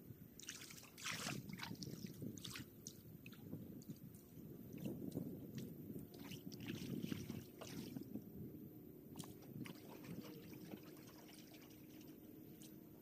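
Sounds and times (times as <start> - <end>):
paddle splashing in water: 0.4 - 4.0, 4.7 - 8.2, 9.1 - 12.8.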